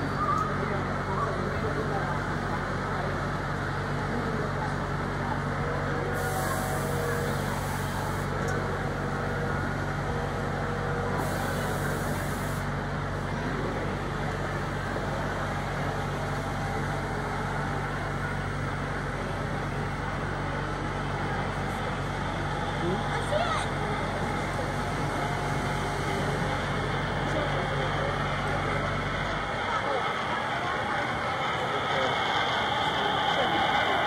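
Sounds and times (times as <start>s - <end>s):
model train wheels rumbling on rails: 1.6s - 34.0s.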